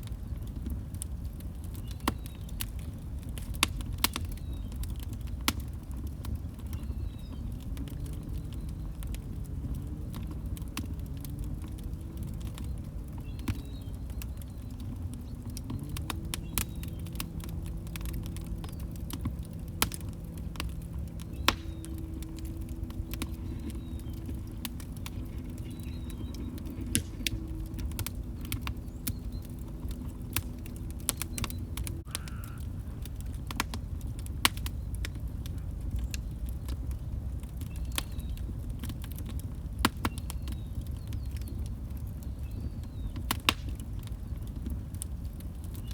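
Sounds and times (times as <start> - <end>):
log fire crackling: 0.0 - 45.9.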